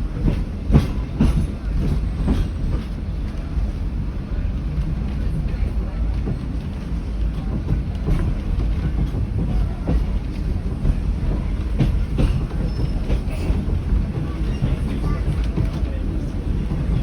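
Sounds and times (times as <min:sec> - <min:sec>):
train carriage rumbling: 0:00.0 - 0:17.0.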